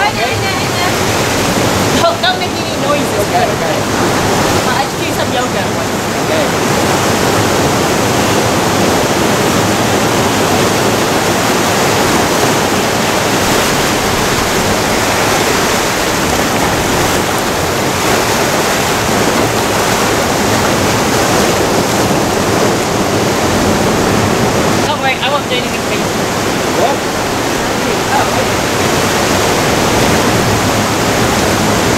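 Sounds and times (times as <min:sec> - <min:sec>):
surf breaking on rocks: 0:00.0 - 0:31.9.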